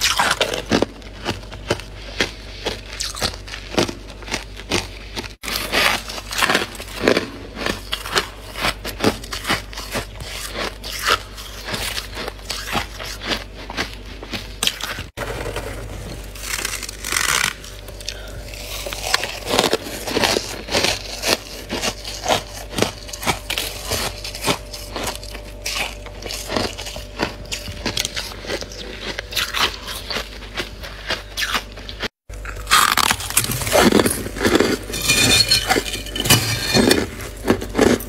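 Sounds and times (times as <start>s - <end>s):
freezer frost crunching and scraping: 0.0s - 38.0s.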